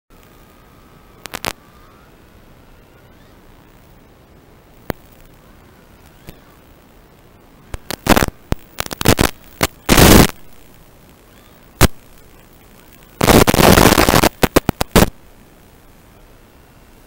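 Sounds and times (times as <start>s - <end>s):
low steady hiss: 0.1s - 17.0s
static hiss bursts: 0.1s - 17.0s.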